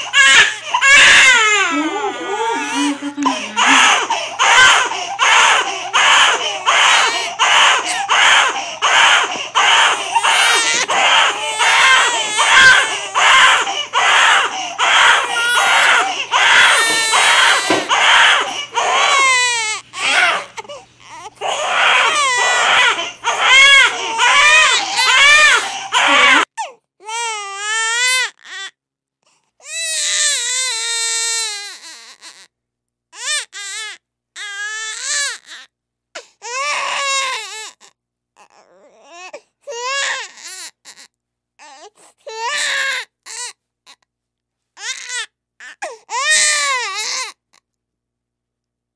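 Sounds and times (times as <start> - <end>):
infant crying in drawn-out wails: 0.0 - 28.8, 29.6 - 32.5, 33.2 - 44.0, 44.8 - 47.6
newborn crying in rapid wails: 0.0 - 28.8, 29.6 - 32.5, 33.2 - 44.0, 44.8 - 47.5.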